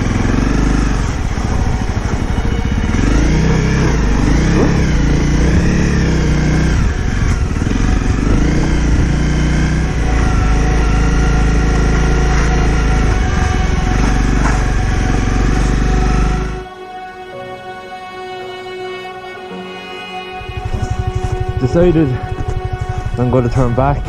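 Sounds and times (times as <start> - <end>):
motorcycle engine revving: 0.0 - 17.3, 18.7 - 24.0.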